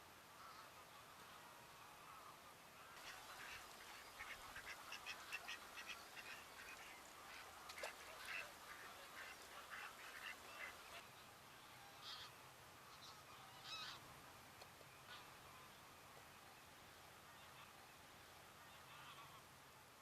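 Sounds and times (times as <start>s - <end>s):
ducks and geese calling: 0.4s - 14.1s, 15.0s - 15.9s, 17.3s - 19.6s.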